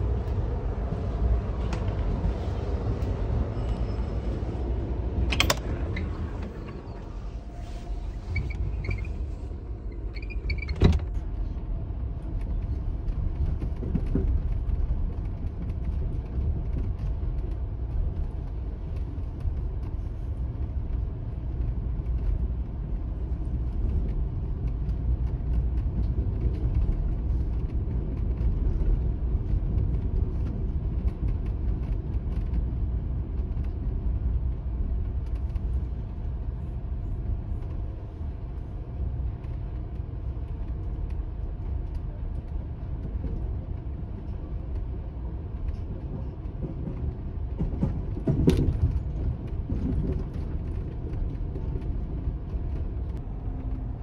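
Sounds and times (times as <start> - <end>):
train rumbling along track: 0.0 - 54.0.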